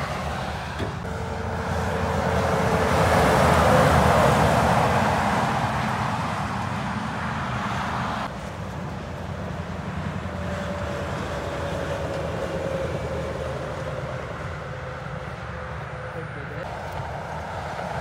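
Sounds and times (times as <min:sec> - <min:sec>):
heavy trucks passing: 0:00.0 - 0:18.0.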